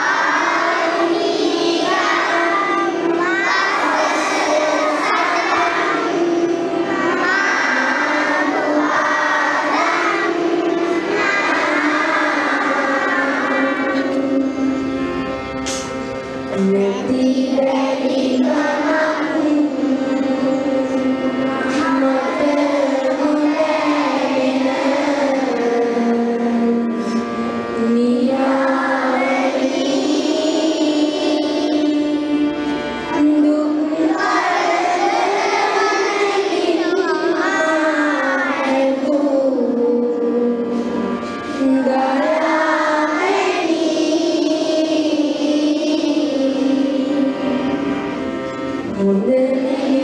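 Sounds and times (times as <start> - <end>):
children singing in unison: 0.0 - 50.0
musical accompaniment: 0.0 - 50.0.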